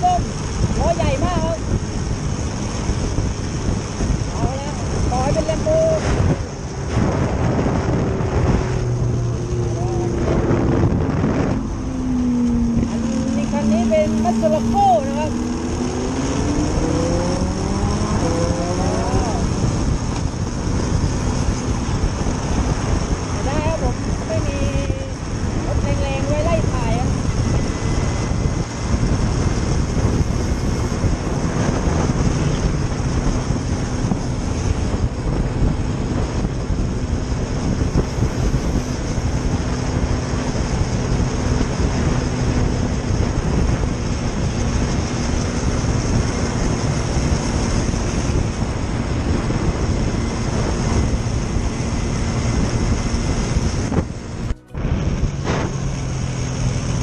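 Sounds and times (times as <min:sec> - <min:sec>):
scooter engine and road noise: 0:00.0 - 0:57.0
wind rushing over microphone: 0:00.0 - 0:57.0.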